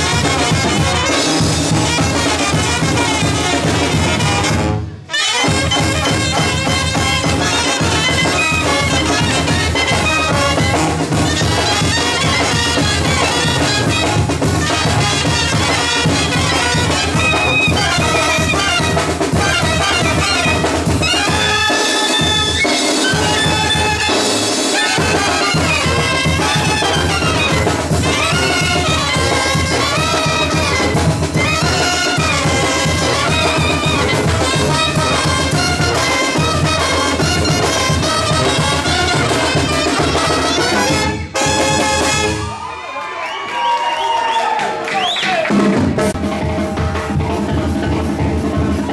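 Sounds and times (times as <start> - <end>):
percussion beat: 0.0 - 4.7, 5.3 - 42.7, 44.8 - 48.9
bass: 0.0 - 42.7, 45.6 - 48.9
brass band music: 0.0 - 42.8, 45.2 - 48.9.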